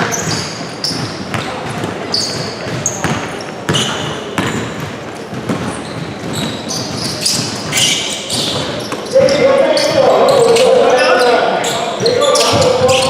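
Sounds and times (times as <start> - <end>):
basketball bouncing: 0.0 - 10.6, 12.0 - 13.0
sneakers squeaking: 0.0 - 13.0.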